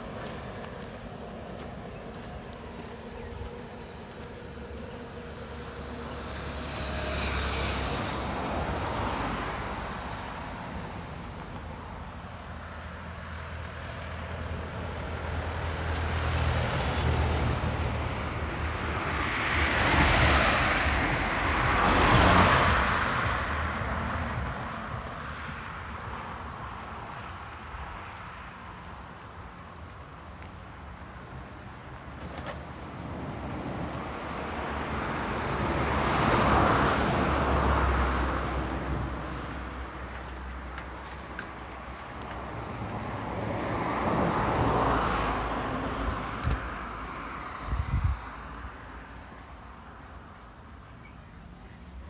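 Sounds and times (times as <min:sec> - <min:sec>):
road vehicles passing by: 0:00.0 - 0:52.0.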